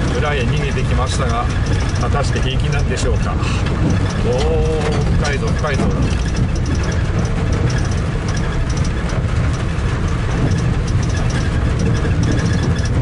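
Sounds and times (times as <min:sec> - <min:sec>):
car engine running: 0:00.0 - 0:13.0
water splashing around car: 0:00.0 - 0:13.0.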